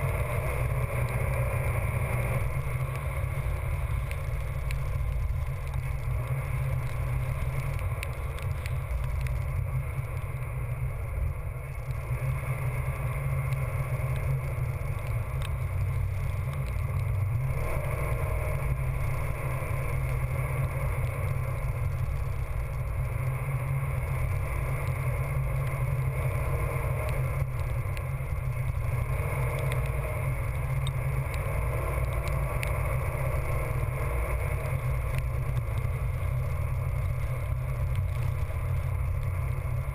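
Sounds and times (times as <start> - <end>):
vehicle driving on wet sand: 0.0 - 39.9.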